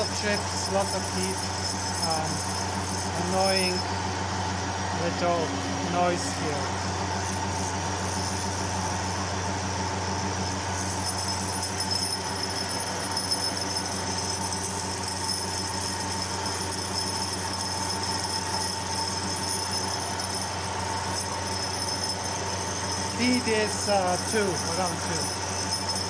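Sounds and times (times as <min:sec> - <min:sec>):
high-pitched cutting whine: 0:00.0 - 0:26.0
milling machine motor hum: 0:00.0 - 0:26.0.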